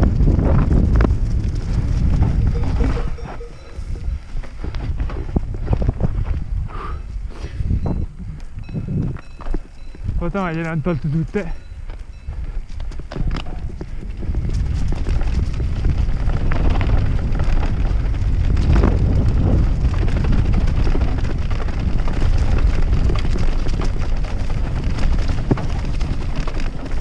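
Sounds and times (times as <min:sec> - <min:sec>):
bike clattering and rattling: 0:00.0 - 0:06.5, 0:08.6 - 0:27.0
tyres rumbling over rough ground: 0:00.0 - 0:27.0
wind buffeting microphone: 0:00.0 - 0:27.0.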